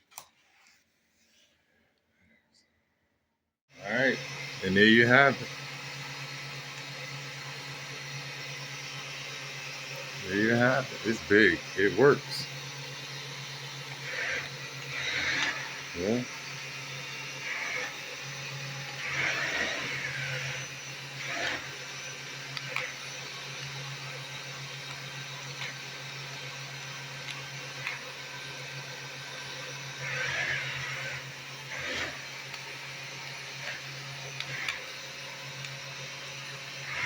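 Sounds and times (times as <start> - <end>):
small electric motor humming: 3.8 - 37.0
short motor whirs: 4.0 - 37.0.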